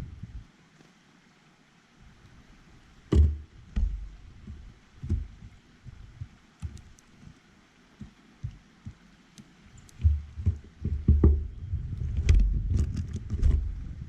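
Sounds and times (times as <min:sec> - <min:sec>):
birds thumping and knocking at feeder: 0:02.1 - 0:13.8.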